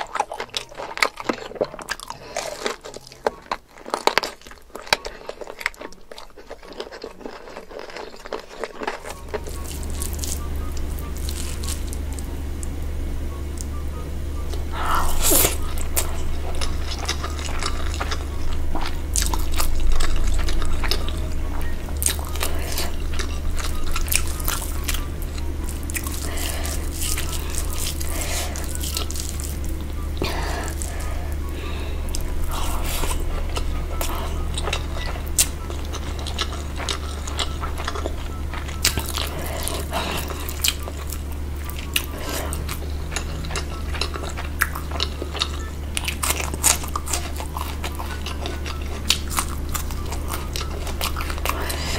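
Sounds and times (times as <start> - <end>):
biting and chewing: 0.0 - 12.8, 14.4 - 51.9
steady low hum: 0.0 - 51.9.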